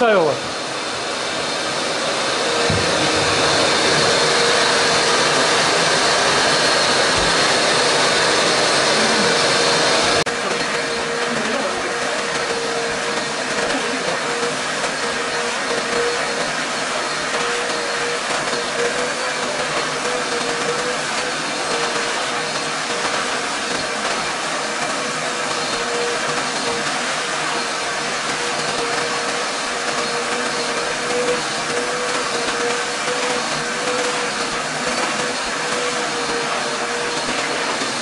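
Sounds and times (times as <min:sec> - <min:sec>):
shop vacuum motor whine: 0:00.0 - 0:38.0.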